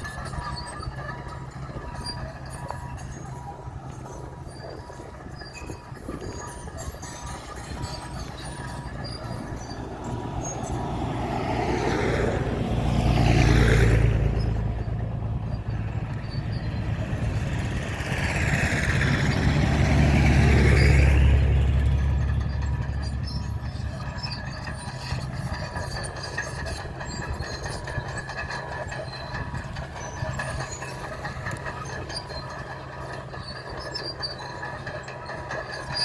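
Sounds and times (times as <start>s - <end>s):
bulldozer diesel engine under load: 0.0s - 36.0s.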